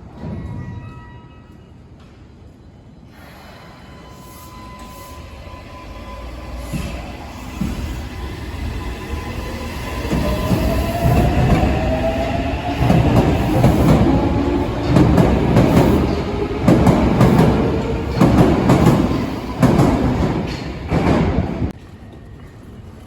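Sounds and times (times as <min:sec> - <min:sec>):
heavy train rumble: 0:02.1 - 0:21.8.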